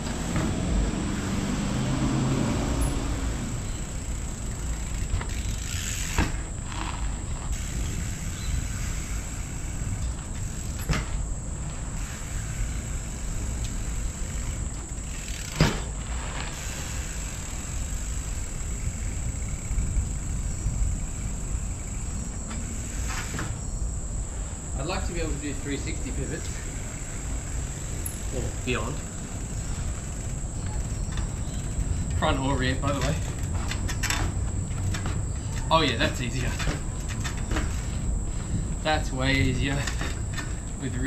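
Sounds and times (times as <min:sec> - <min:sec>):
high-pitched insect drone: 0:00.1 - 0:33.2
steady low rumble: 0:02.4 - 0:41.0.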